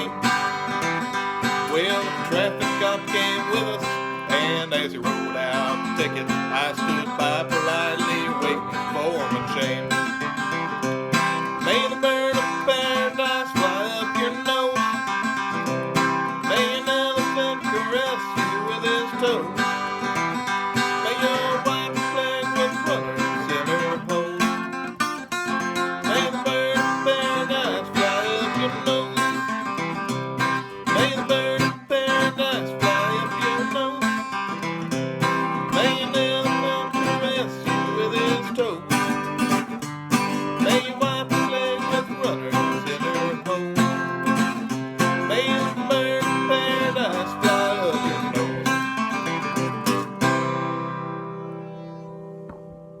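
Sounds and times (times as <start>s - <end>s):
acoustic guitar country style: 0.0s - 53.0s.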